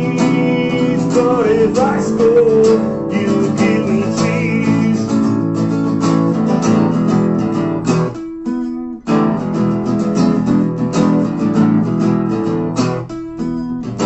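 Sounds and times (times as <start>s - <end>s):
acoustic guitars strumming: 0.0s - 14.0s.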